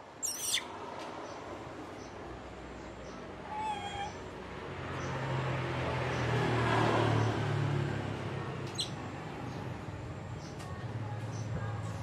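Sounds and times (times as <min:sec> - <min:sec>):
vehicle engine hum passing: 0:00.0 - 0:12.0.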